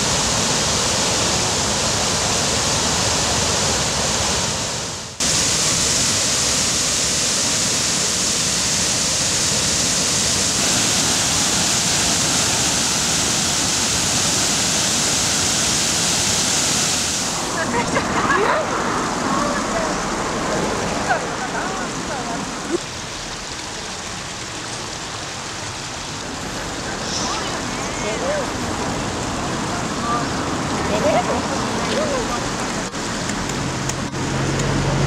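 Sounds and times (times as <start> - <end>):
river water rushing over weirs: 0.0 - 35.0.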